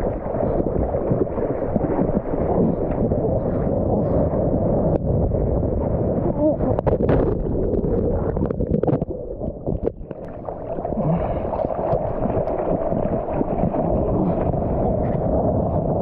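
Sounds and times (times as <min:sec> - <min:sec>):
sea water rushing and splashing: 0:00.0 - 0:16.0.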